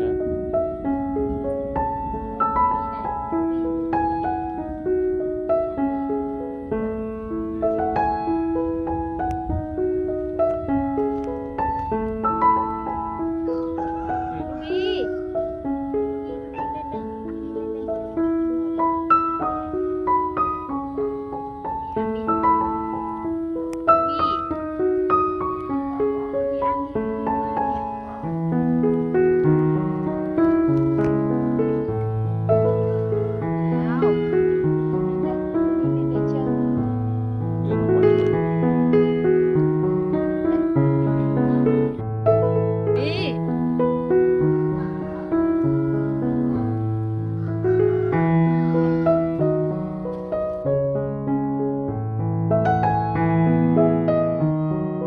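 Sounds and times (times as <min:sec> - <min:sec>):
keyboard melody: 0:00.0 - 0:55.0.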